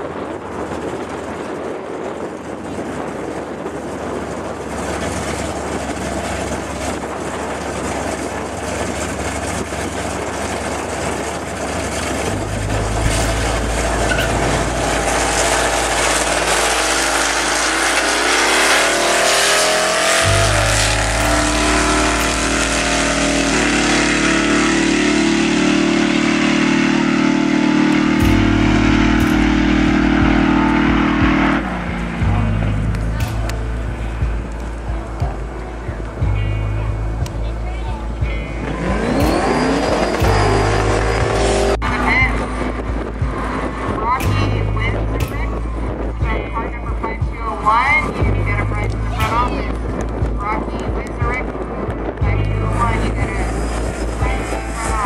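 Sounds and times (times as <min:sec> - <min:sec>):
drag racing cars accelerating: 0:00.0 - 0:35.3, 0:38.1 - 0:55.0
wind on microphone: 0:00.0 - 0:55.0.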